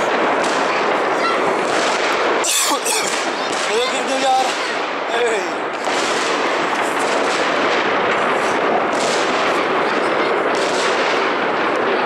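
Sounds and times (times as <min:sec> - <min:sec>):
fireworks crackling barrage: 0:00.0 - 0:12.0
sharp firework bangs: 0:00.0 - 0:12.0.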